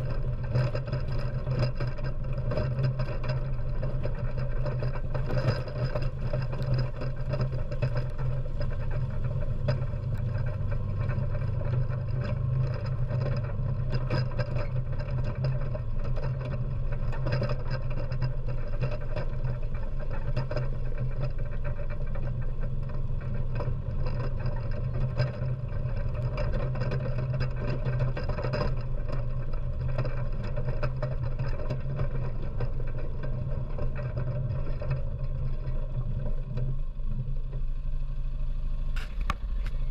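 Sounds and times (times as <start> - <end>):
quad bike engine humming: 0.0 - 39.9
small clicks and rattles: 0.0 - 39.9.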